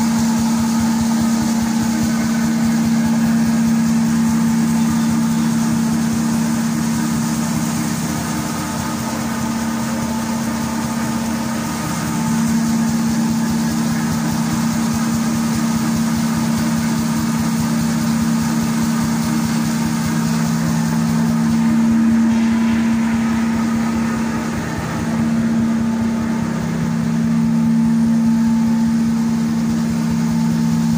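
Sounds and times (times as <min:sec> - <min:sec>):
continuous mechanical noise: 0:00.0 - 0:30.9
machine motor hum: 0:00.0 - 0:30.9.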